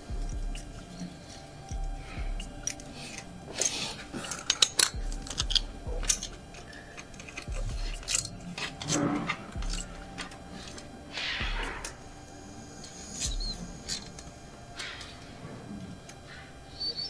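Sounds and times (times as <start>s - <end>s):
tools and bolts clinking: 0.0s - 17.0s.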